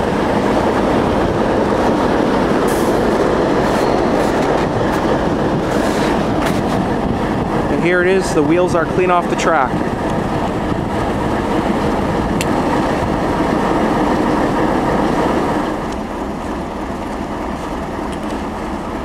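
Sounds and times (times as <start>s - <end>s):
steady rumbling: 0.0s - 19.0s.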